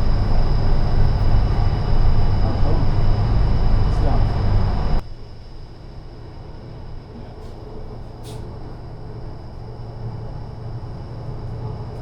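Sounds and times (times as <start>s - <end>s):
faint steady hum: 0.0s - 12.0s
train carriage rumble: 0.0s - 12.0s.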